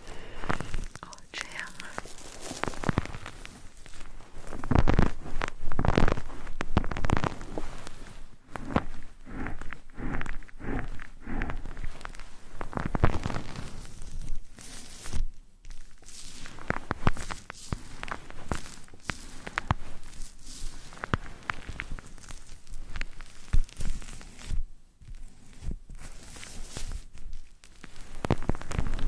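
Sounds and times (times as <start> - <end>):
rustling: 0.0 - 29.0
scratching at microphone: 0.0 - 29.0.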